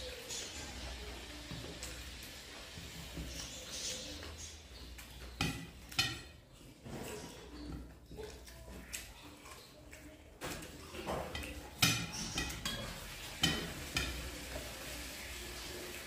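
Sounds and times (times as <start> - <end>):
hands mixing food: 0.0 - 16.0
soft eating sounds: 0.0 - 16.0.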